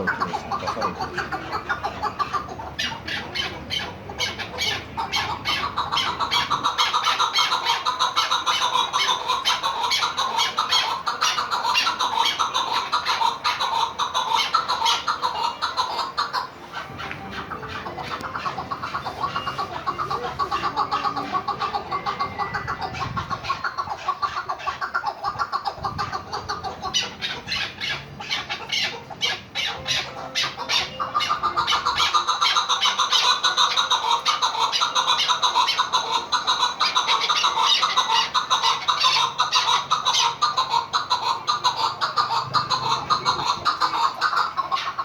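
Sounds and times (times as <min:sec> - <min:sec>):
partridge calling: 0:00.0 - 0:45.0.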